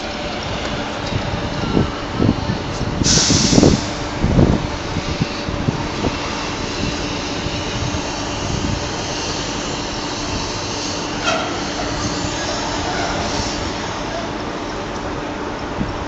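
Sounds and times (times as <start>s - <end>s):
crane machinery humming: 0.0s - 16.0s.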